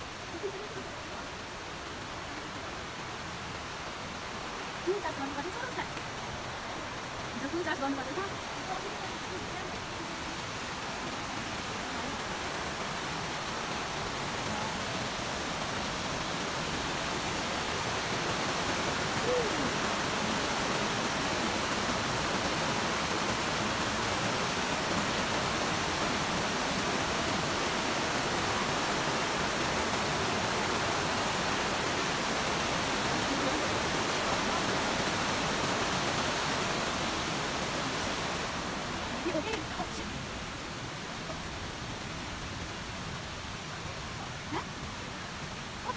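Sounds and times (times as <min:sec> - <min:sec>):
small waterfall rushing over rocks: 0:00.0 - 0:45.9.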